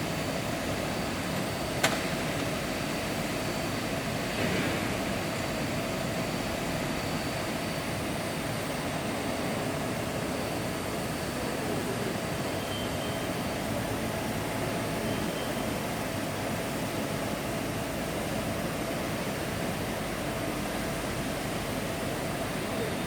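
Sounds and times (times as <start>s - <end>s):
machinery hum: 0.0s - 23.0s.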